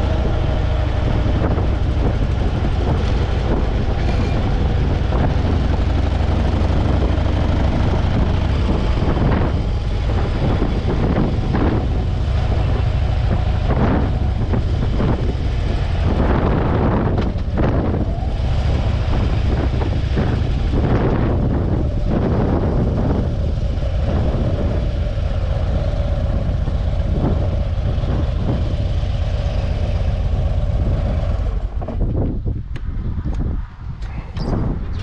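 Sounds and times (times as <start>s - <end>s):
motorcycle engine drone: 0.0s - 35.0s
wind rushing over microphone: 0.0s - 35.0s.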